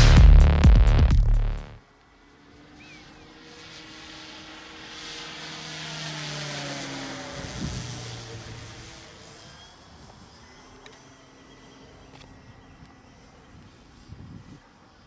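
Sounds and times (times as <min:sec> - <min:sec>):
model plane propeller drone: 0:01.8 - 0:15.0.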